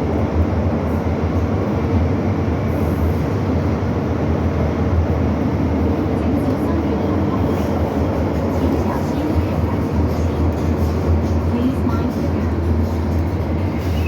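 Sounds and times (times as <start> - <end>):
train rumbling in motion: 0.0 - 14.0.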